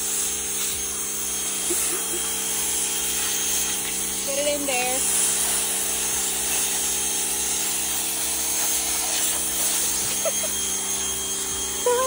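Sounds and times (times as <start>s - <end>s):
pressure washer motor humming: 0.0s - 12.0s
water jet hissing: 0.0s - 12.0s.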